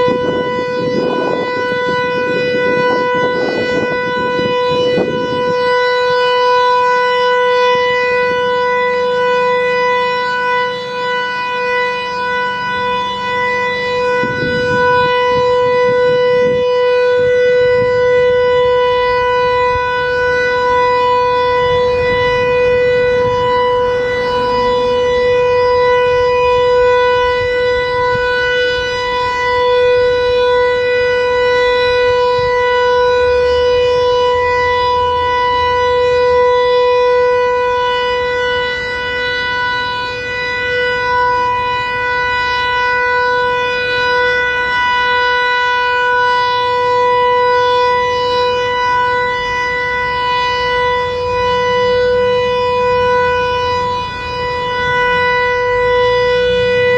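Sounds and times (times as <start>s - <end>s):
mechanical siren steady tone: 0.0s - 56.9s.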